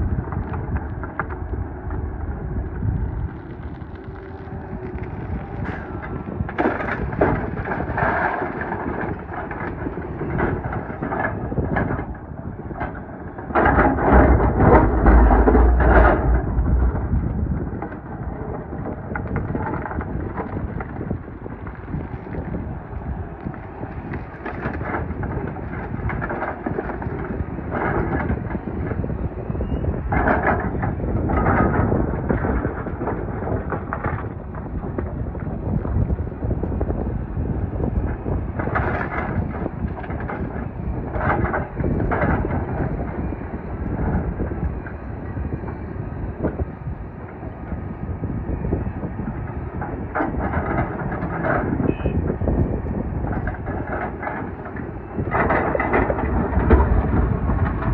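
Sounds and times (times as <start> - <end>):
excavator engine under load: 0.0 - 57.9
gravel scraping and rattling: 0.0 - 57.9
heavy deep rumble: 0.0 - 57.9.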